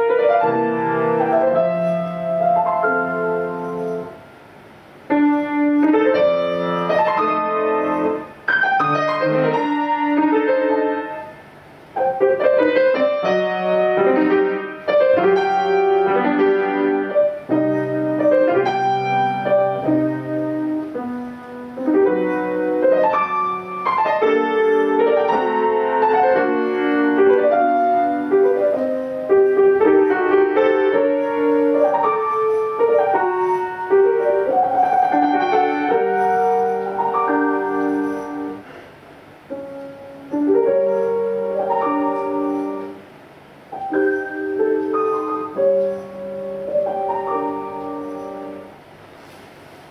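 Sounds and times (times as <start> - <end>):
piano music: 0.0 - 49.9.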